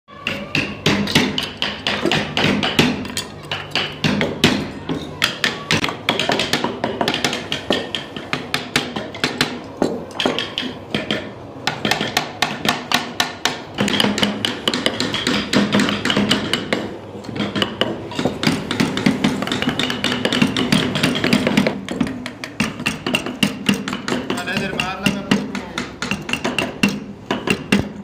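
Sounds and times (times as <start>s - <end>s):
wooden mallet tapping gouges: 0.1s - 28.0s.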